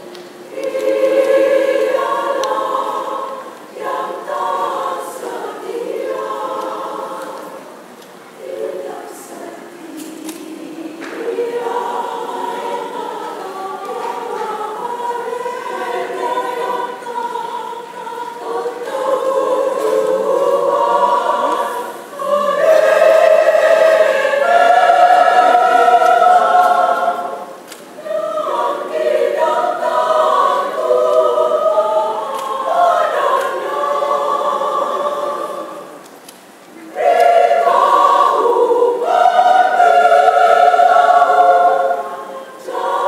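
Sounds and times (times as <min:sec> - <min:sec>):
women's choir singing in harmony: 0:00.0 - 0:43.0.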